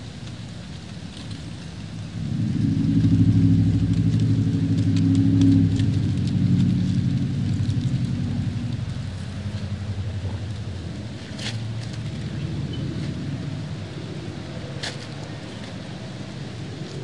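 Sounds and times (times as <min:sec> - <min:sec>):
rustling leaves: 0:00.0 - 0:17.0
train engine rumble: 0:00.0 - 0:17.0
wind: 0:00.0 - 0:17.0.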